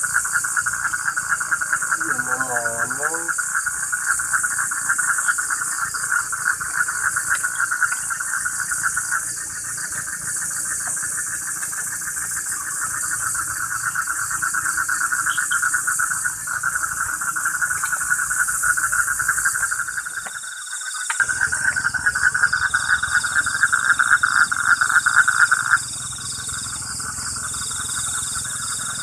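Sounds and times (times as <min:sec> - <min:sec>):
low fast-pulsing insect chirp: 0:00.0 - 0:29.0
shrill high insect trill: 0:00.0 - 0:29.0.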